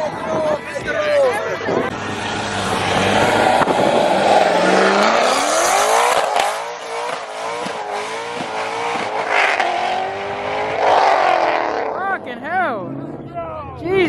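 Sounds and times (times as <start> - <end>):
car engine revving: 0.4 - 13.7.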